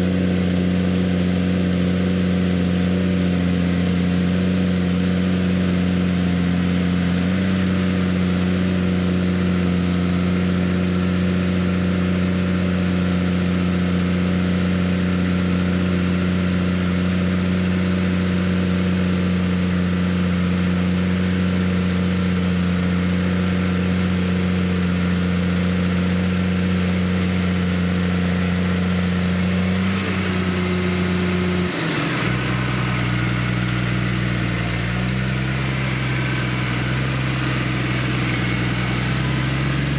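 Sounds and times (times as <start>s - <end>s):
tractor engine running hard: 0.0s - 39.9s.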